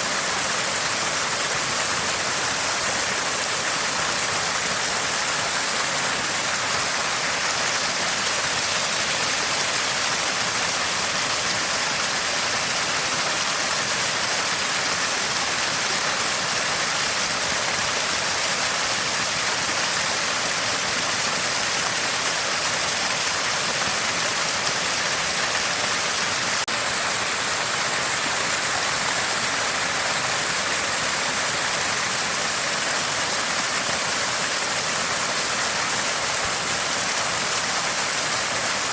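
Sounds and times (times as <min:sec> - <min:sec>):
water gurgling from a spring: 0:00.0 - 0:38.9.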